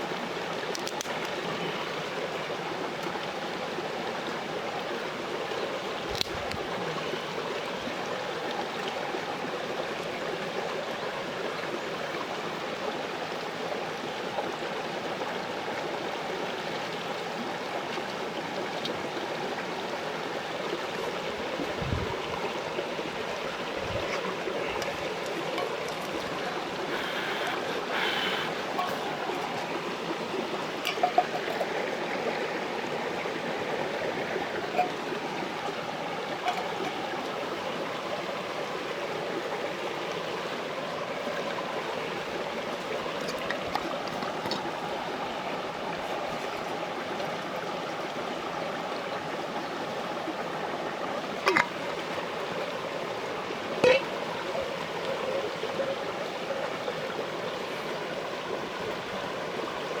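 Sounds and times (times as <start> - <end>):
stream rushing: 0.0 - 60.0.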